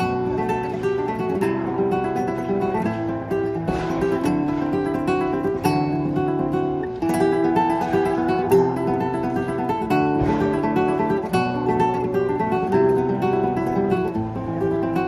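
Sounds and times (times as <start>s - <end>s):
flamenco guitar plucked notes: 0.0s - 15.0s.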